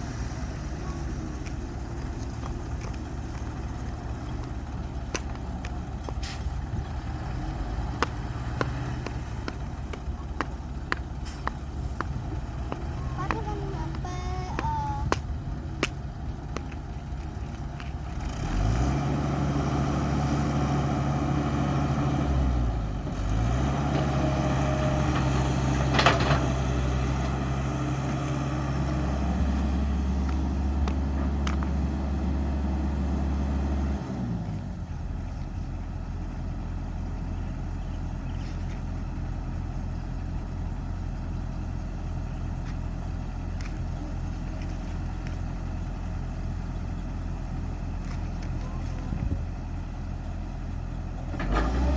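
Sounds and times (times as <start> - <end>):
diesel engine revving and idling: 0.0 - 51.9.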